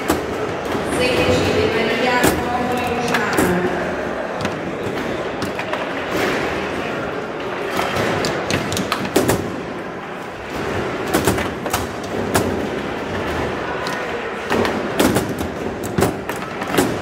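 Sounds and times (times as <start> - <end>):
hall background noise: 0.0 - 17.0.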